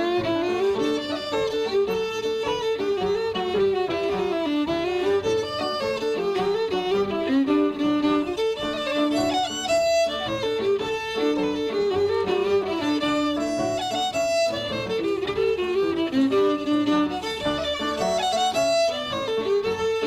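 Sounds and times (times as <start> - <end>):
fiddle playing a quick tune: 0.0 - 20.0.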